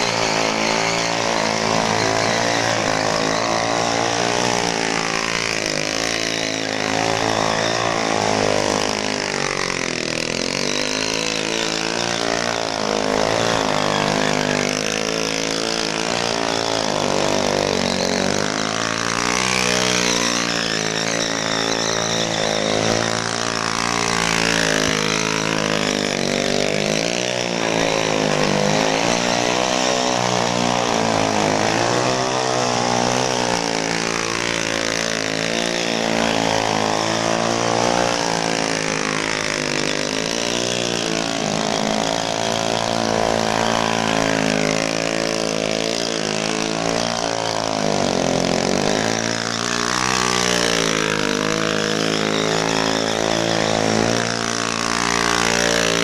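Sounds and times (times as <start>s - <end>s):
small motorcycle engine revving: 0.0s - 56.0s.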